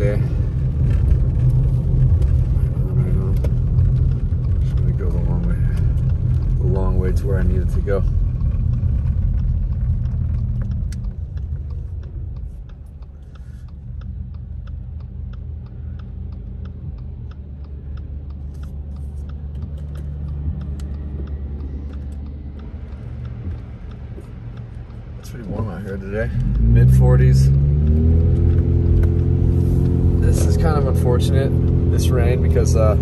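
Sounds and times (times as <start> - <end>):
car engine rumble from inside cabin: 0.0 - 33.0
turn signal ticking: 0.0 - 33.0.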